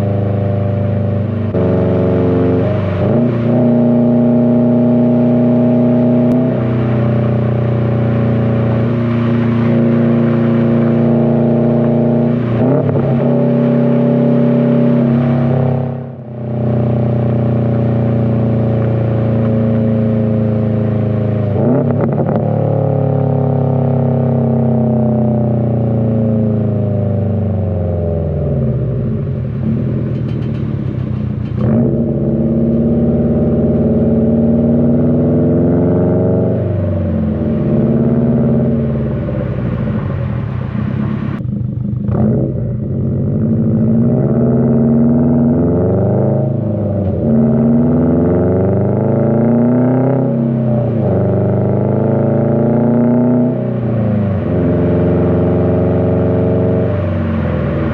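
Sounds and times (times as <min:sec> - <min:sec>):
car engine driving with gear changes: 0:00.0 - 0:57.9.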